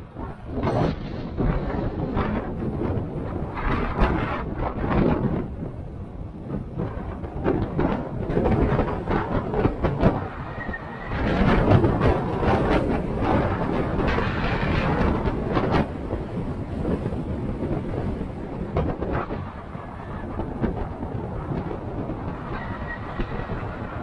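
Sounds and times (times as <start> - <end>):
tyres and body rumbling: 0.0 - 24.0.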